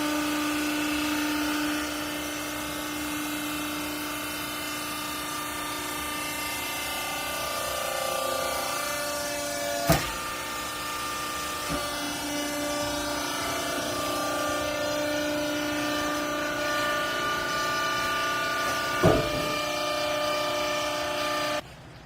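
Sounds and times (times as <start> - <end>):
hydraulic machine whine: 0.0 - 21.6.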